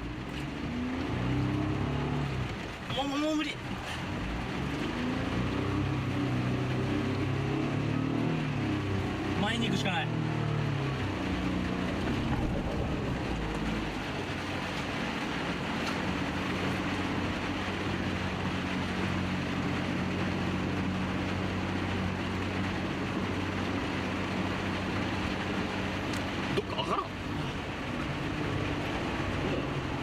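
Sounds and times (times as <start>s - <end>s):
engine humming under load: 0.0s - 30.0s
water rushing: 0.0s - 30.0s.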